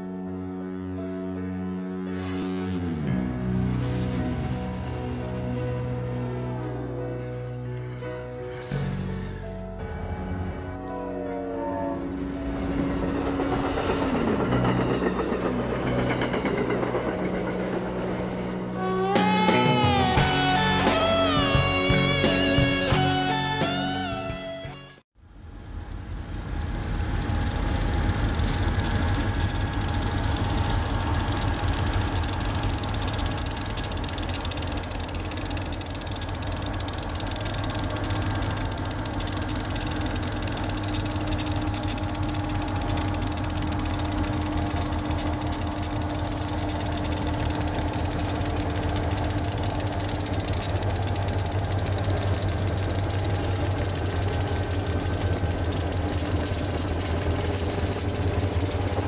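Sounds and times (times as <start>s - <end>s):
diesel locomotive engine rumbling: 2.8s - 59.0s.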